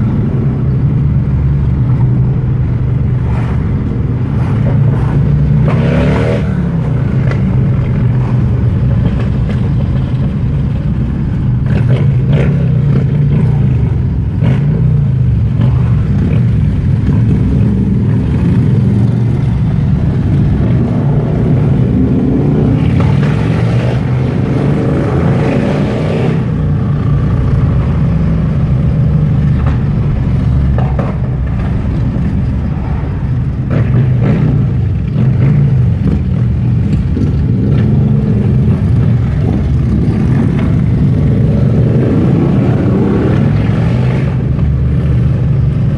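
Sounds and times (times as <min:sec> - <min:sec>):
motorcycle engines rumbling: 0:00.0 - 0:45.9.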